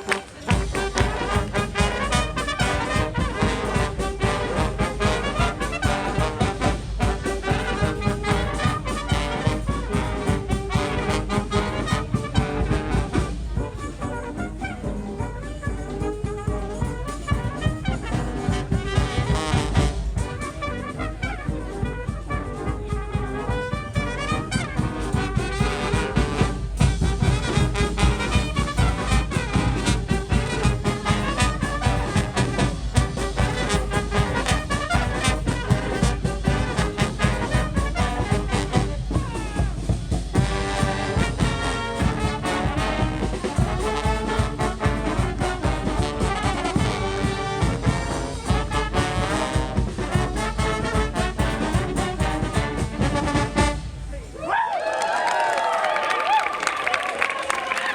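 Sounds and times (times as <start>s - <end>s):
marching band playing: 0.0s - 54.4s.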